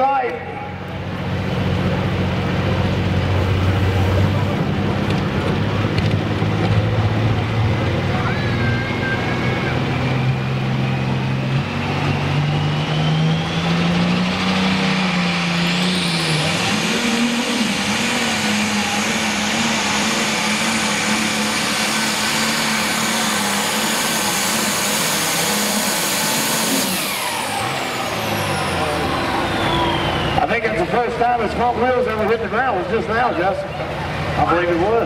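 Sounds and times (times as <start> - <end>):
high whine: 0.0 - 35.0
tractor engine at full power: 0.0 - 35.0.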